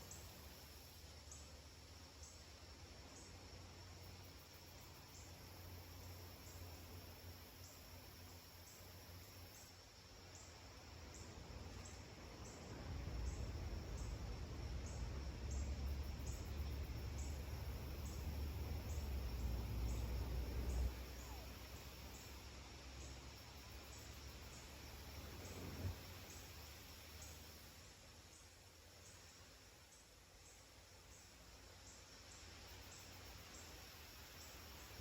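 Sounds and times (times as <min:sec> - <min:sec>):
insect chirping: 0:00.0 - 0:35.0.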